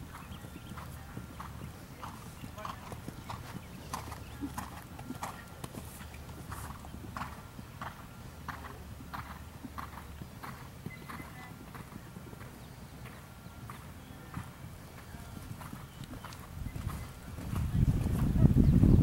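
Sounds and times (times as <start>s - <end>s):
horse hooves on sand: 0.0s - 19.0s.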